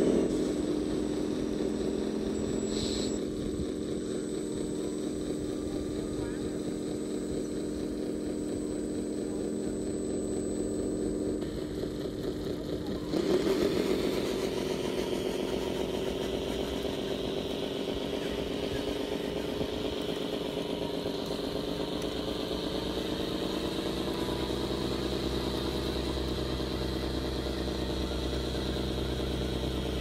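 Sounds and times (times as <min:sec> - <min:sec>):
high motor whine: 0:00.0 - 0:30.0
toy truck engine drone: 0:00.0 - 0:30.0.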